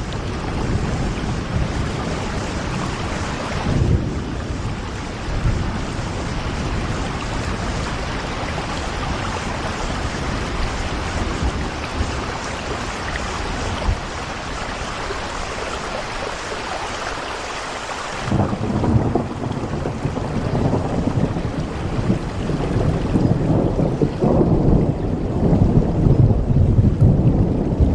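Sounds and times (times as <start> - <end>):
rain on a window: 0.0 - 27.9.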